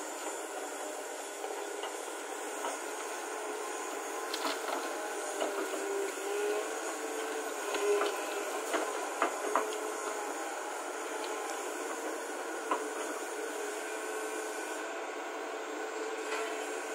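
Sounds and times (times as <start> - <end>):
excavator engine and hydraulics: 0.0 - 16.9.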